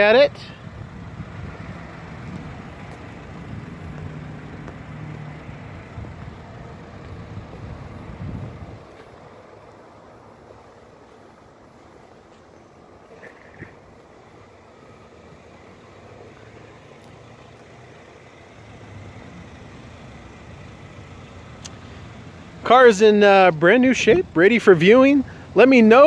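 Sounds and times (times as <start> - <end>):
road noise: 0.0 - 26.0
vehicle engine humming: 0.0 - 26.0.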